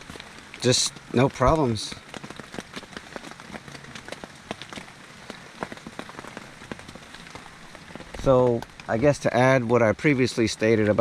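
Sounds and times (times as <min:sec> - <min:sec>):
rain on tent fabric: 0:00.0 - 0:11.0.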